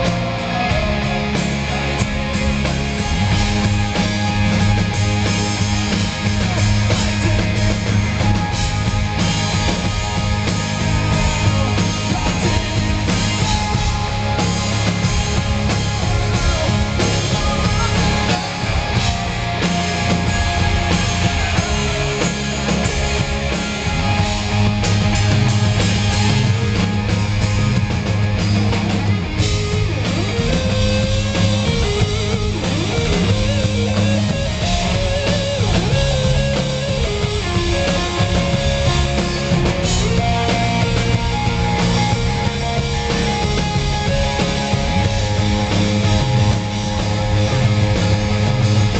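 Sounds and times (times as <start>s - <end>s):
lead electric guitar bending: 0.0s - 48.9s
live rock band playing: 0.0s - 48.9s.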